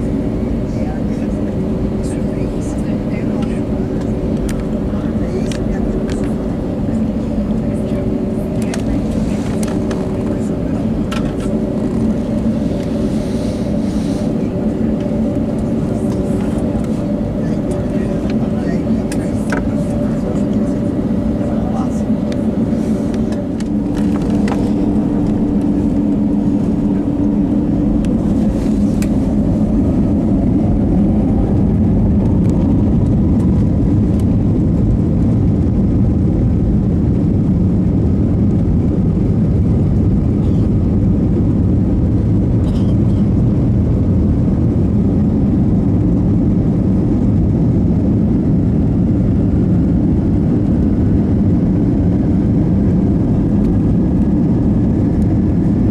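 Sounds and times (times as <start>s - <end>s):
aircraft cabin rumble: 0.0s - 55.9s.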